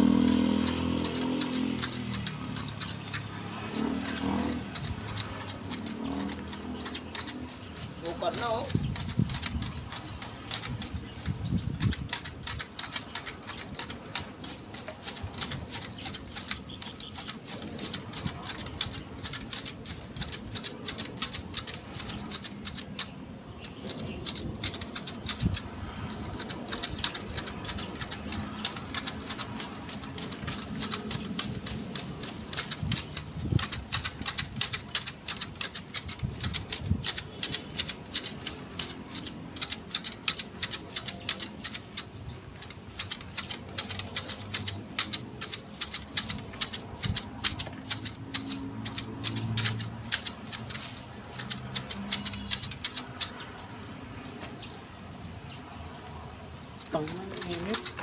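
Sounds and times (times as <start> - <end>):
hedge shears snipping: 0.0 - 54.8, 55.6 - 58.0.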